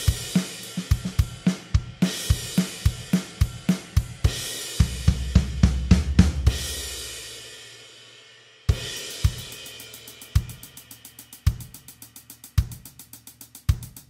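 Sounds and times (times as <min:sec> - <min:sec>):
rock drum groove: 0:00.0 - 0:14.0.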